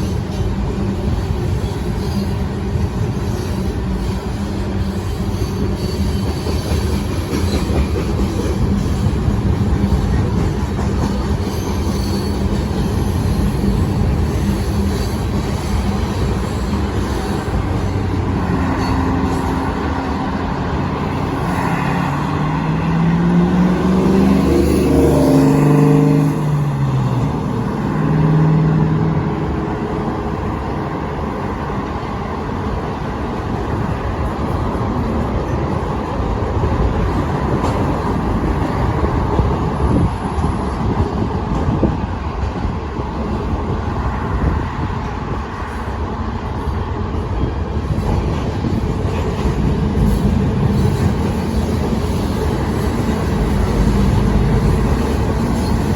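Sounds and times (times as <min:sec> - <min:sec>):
freight train wagons rumbling on rails: 0:00.0 - 0:55.9
train engine passing: 0:00.0 - 0:55.9.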